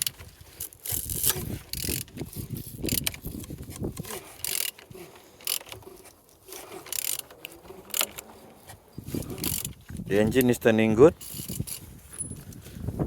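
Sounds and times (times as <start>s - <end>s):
engine turned by hand clicking: 0.0s - 12.6s.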